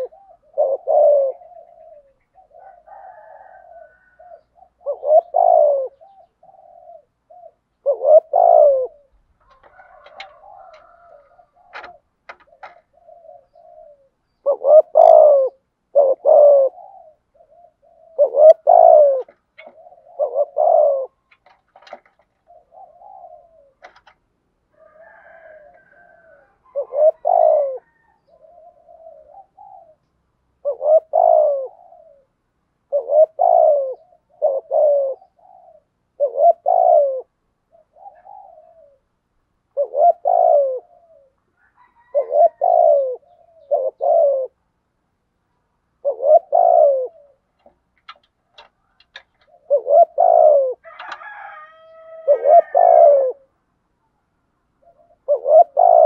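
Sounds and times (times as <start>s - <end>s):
dove cooing: 0.0s - 44.7s, 45.9s - 53.6s, 54.8s - 56.0s.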